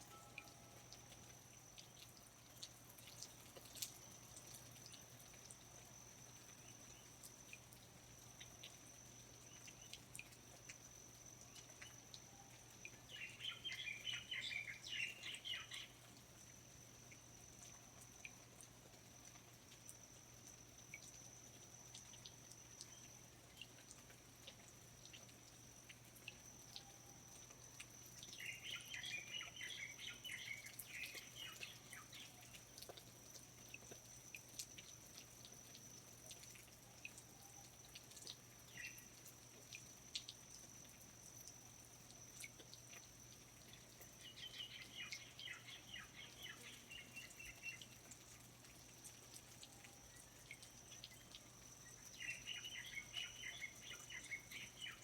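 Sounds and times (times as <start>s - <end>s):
steady high-pitched whine: 0.0s - 55.0s
water drips: 0.0s - 55.0s.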